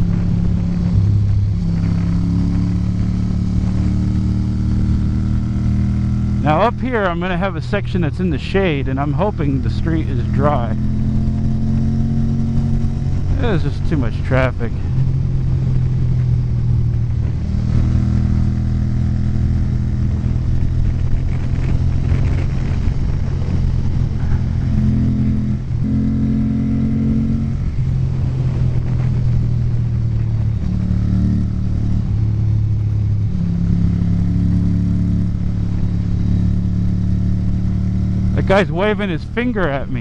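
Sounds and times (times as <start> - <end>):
motorcycle engine at road speed: 0.0 - 40.0.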